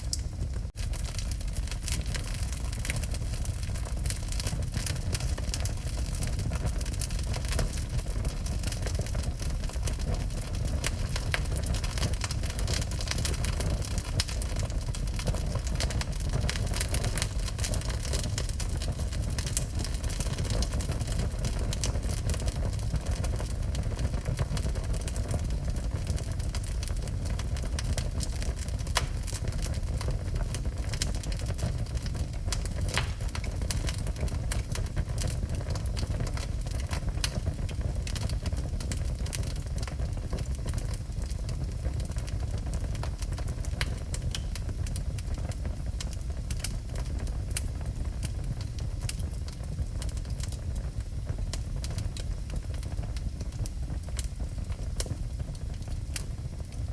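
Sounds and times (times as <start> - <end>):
fire low rumble: 0.0 - 56.9
wood fire crackling: 0.0 - 56.9.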